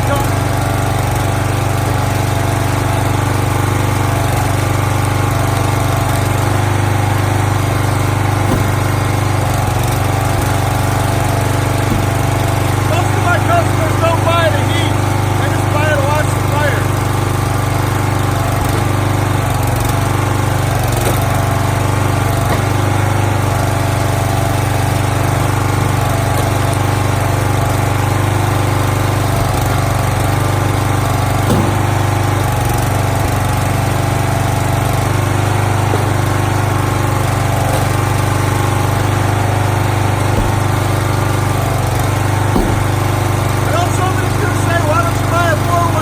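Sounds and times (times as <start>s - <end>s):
gas engine running: 0.0s - 46.0s.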